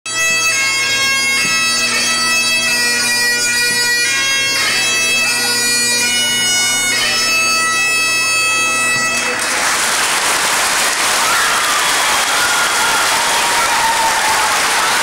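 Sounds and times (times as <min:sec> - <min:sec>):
bagpipe playing a tune: 0:00.1 - 0:09.5, 0:12.4 - 0:15.0.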